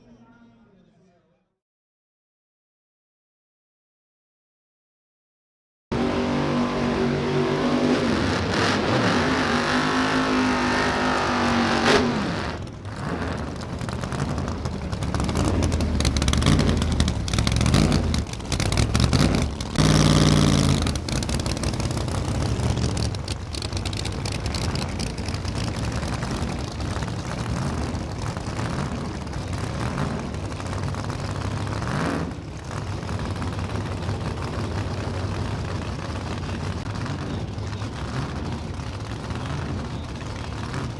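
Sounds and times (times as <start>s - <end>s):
race car engine revving: 5.9s - 40.9s.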